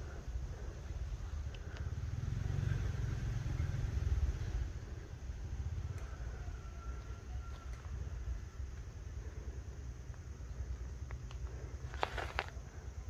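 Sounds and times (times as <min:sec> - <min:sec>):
low uneven rumble: 0:00.0 - 0:13.0.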